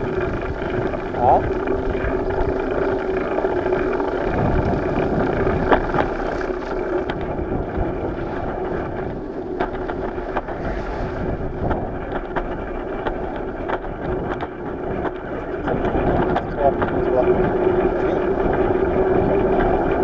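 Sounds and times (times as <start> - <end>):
small clicks and rattles: 0.0 - 20.0
steady hum: 0.0 - 20.0
tyres on concrete road: 0.0 - 20.0
wind on microphone: 0.0 - 20.0.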